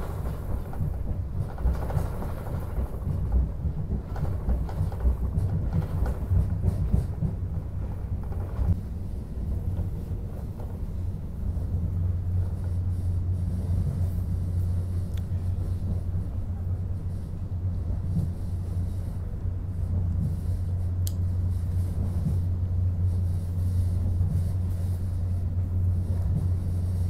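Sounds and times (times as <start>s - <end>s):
passenger train rumbling: 0.0s - 27.0s.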